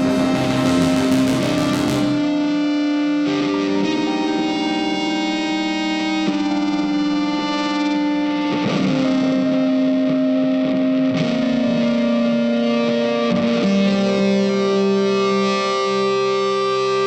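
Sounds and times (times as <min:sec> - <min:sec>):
electric guitar long notes: 0:00.0 - 0:17.0.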